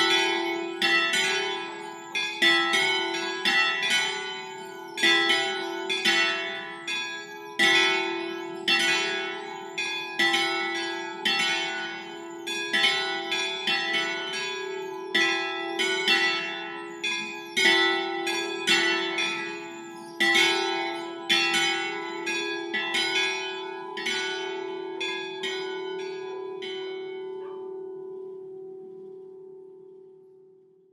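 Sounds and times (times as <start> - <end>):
bells humming: 0.0 - 29.9
church bells ringing: 0.0 - 30.4.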